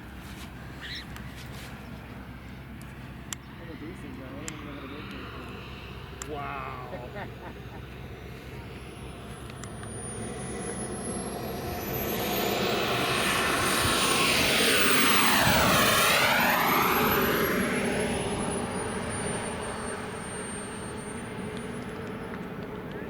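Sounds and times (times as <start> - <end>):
model jet turbine whine: 0.0 - 23.0.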